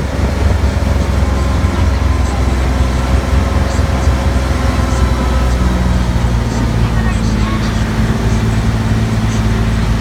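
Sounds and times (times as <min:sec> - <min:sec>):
engine humming: 0:00.0 - 0:10.0
road and rolling noise: 0:00.0 - 0:10.0.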